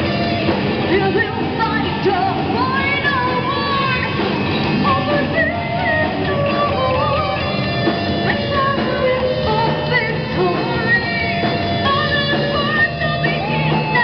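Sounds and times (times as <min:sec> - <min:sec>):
distorted electric guitars: 0:00.0 - 0:14.0
drums: 0:00.0 - 0:14.0
woman singing lead vocals: 0:00.0 - 0:14.0.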